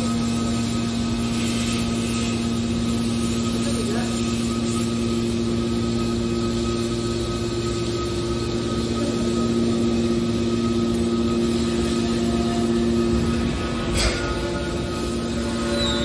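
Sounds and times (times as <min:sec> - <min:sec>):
faint high whine: 0:00.0 - 0:16.0
hydraulic power unit droning hum: 0:00.0 - 0:16.0.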